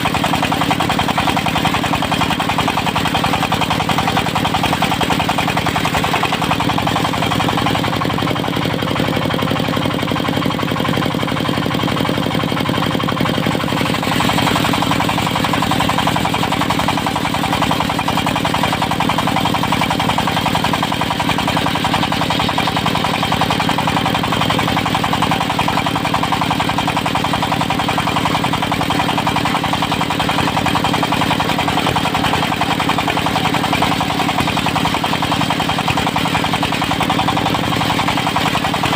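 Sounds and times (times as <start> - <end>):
diesel engine running sawmill: 0.0 - 38.9.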